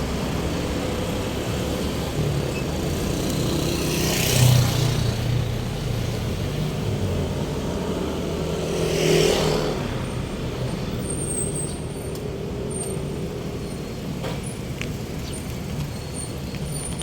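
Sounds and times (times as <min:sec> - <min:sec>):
road traffic: 0:00.0 - 0:17.0
rush of passing vehicle: 0:00.0 - 0:17.0.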